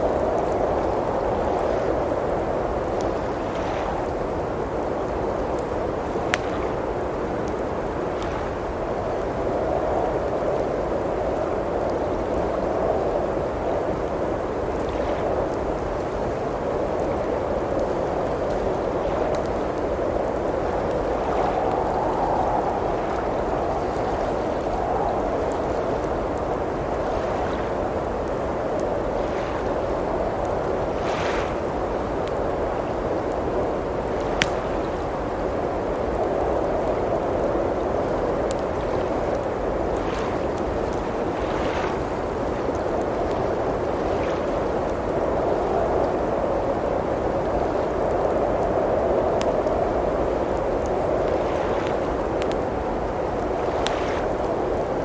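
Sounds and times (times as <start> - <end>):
blizzard wind blowing: 0.0 - 55.0
wood fire crackling: 0.0 - 55.0.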